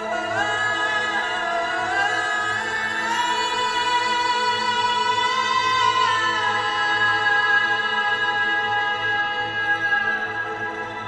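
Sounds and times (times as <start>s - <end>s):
ambient music with low drone: 0.0s - 11.0s.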